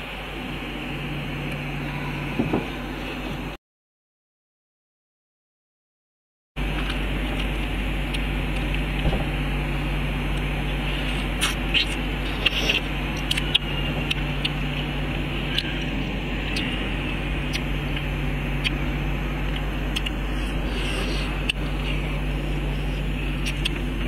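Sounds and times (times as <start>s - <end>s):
background hum and hiss: 0.0s - 3.6s, 6.6s - 24.0s.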